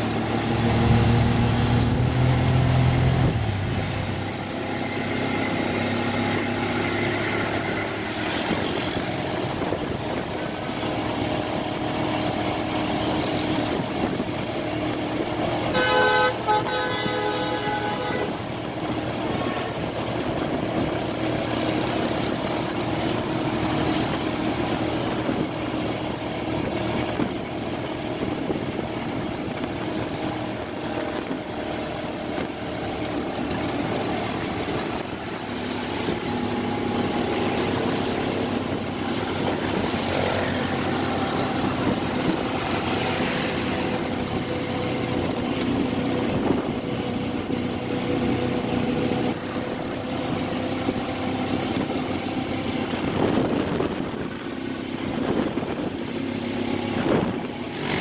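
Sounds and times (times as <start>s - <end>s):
auto-rickshaw engines: 0.0s - 58.0s
vehicle engine and road noise: 0.0s - 58.0s.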